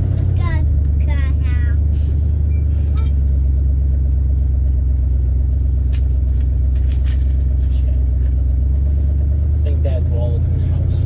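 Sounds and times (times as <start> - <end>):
car engine drone: 0.0 - 11.0
road noise: 0.0 - 11.0.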